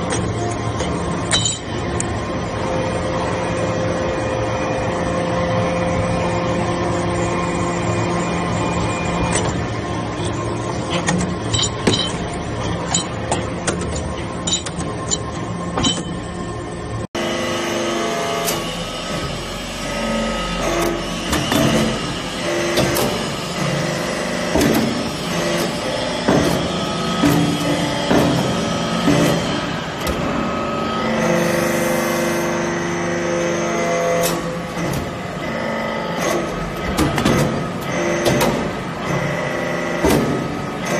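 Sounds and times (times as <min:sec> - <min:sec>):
hydraulic press humming: 0:00.0 - 0:40.9.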